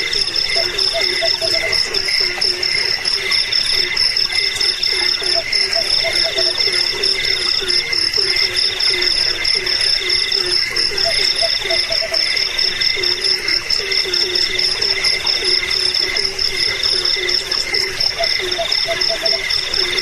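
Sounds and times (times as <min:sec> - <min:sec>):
crickets and insects trilling: 0:00.0 - 0:20.0
frogs croaking: 0:00.0 - 0:20.0.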